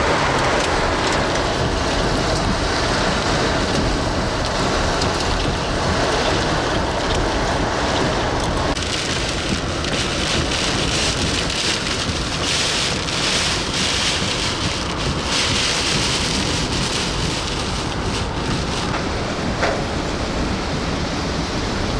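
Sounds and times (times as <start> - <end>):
heavy rain: 0.0 - 21.9
strong wind gusts: 0.0 - 21.9.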